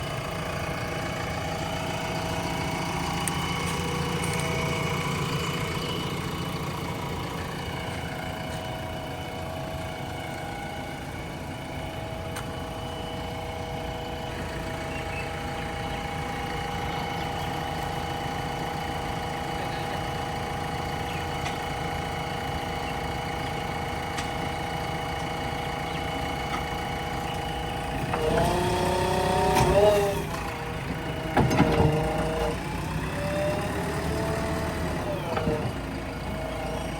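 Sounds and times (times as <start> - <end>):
diesel engine running and revving: 0.0 - 36.9.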